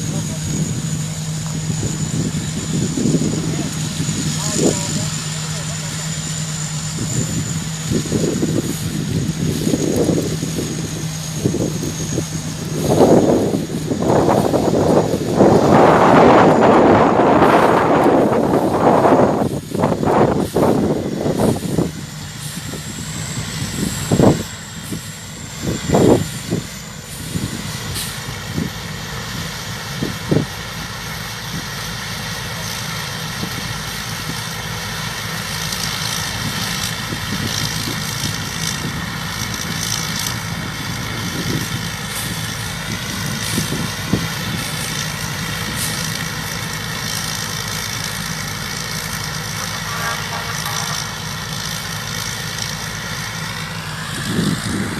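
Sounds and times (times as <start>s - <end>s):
combine harvester running: 0.0s - 54.9s.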